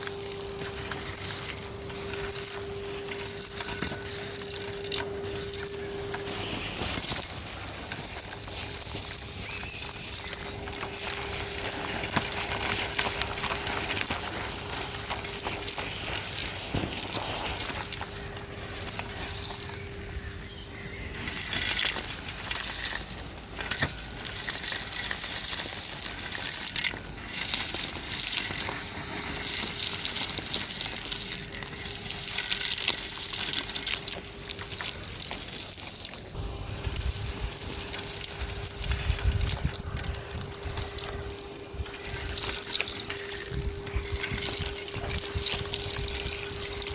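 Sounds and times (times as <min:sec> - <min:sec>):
debris rattling up vacuum hose: 0:00.0 - 0:46.9.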